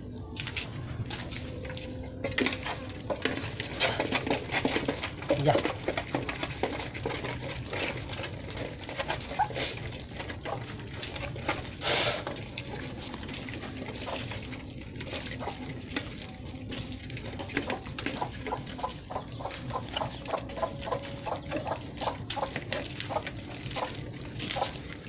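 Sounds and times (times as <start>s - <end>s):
puppies chewing and lapping: 0.0s - 25.0s.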